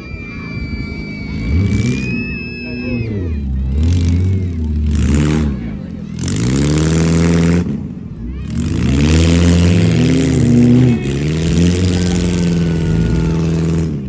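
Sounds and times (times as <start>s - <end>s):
car engine revving hard: 0.4s - 14.0s.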